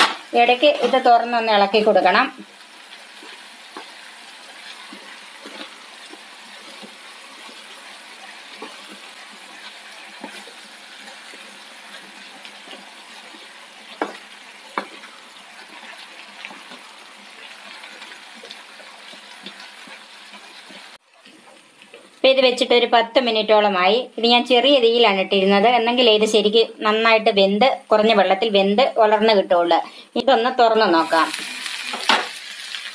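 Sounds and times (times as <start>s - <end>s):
vegetables sizzling in a frying pan: 0.0s - 32.9s.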